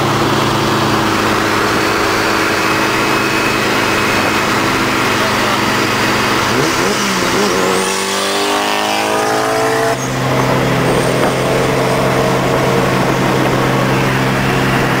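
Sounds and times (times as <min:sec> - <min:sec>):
high turbo whine: 0:00.0 - 0:15.0
sports car engine accelerating: 0:00.0 - 0:15.0.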